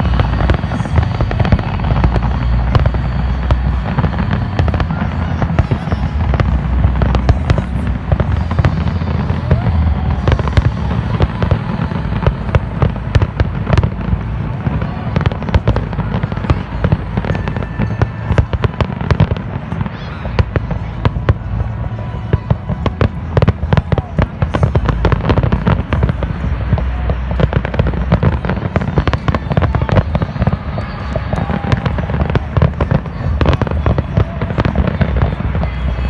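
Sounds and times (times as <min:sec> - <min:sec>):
deep fireworks booms: 0:00.0 - 0:36.0
fireworks bangs and crackles: 0:00.0 - 0:36.0.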